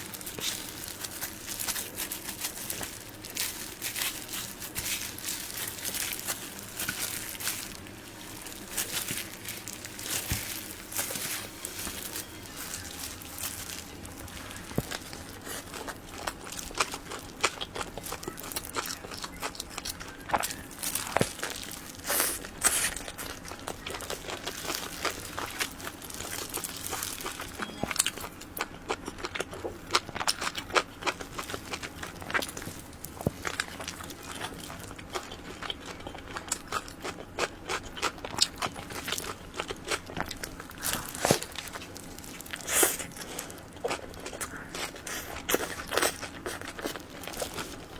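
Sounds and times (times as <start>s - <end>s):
chewing: 0.0s - 47.9s.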